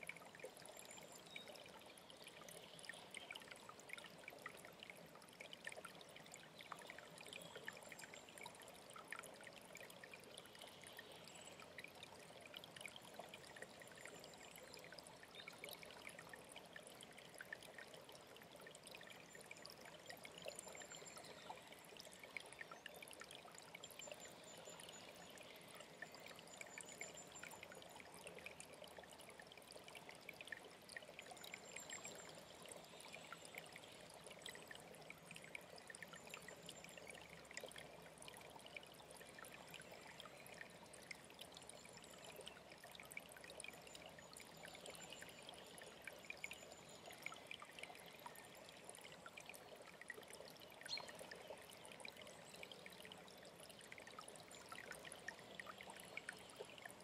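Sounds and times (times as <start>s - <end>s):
stream trickling: 0.0s - 57.0s.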